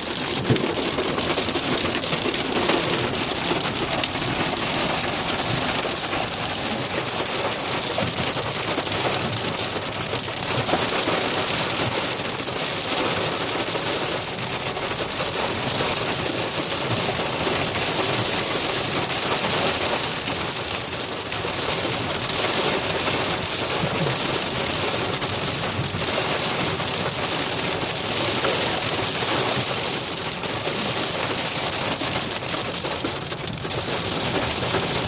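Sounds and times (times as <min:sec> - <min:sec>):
heavy rain pelting a car: 0:00.0 - 0:35.0.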